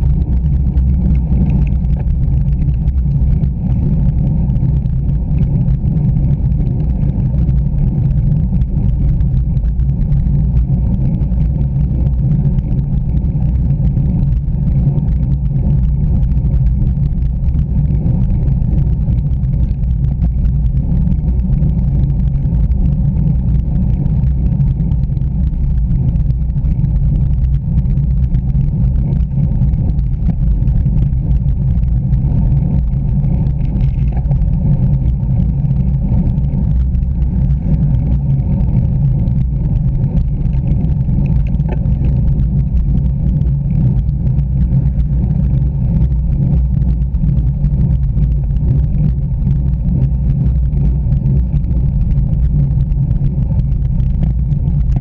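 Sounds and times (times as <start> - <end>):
road rumble: 0.0 - 55.0
wind buffeting microphone: 0.0 - 55.0.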